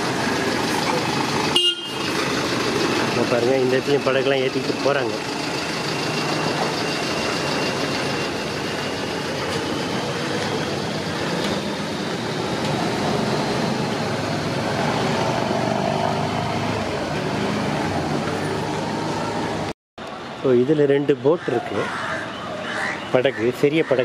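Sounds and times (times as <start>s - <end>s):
vehicle engines running: 0.0s - 20.4s.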